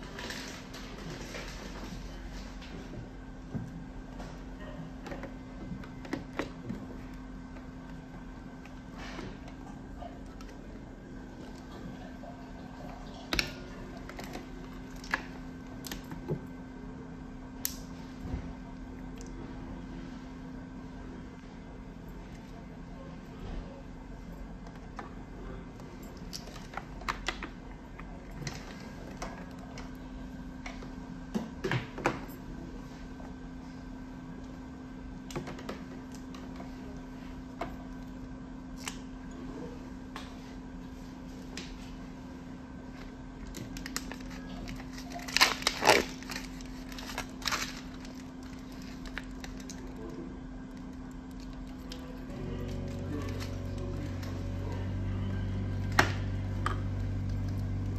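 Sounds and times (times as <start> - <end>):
machine hum: 0.0 - 57.9.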